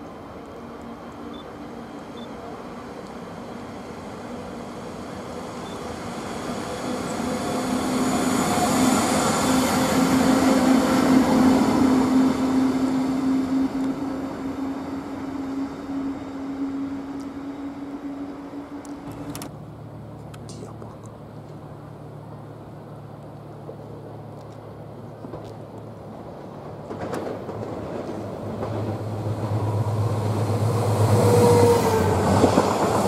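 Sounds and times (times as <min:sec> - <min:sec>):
electric locomotive hum: 0:00.0 - 0:33.0
wheels rumbling on rails: 0:00.0 - 0:33.0.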